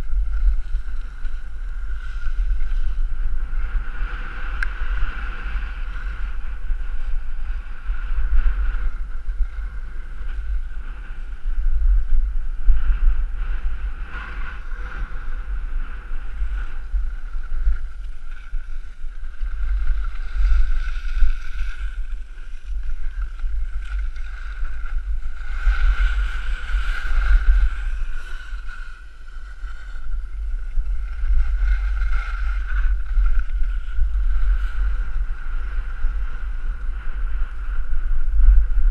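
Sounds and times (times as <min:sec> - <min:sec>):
skis scraping on snow: 0:00.0 - 0:11.4, 0:13.3 - 0:37.7
wind buffeting microphone: 0:00.0 - 0:38.9.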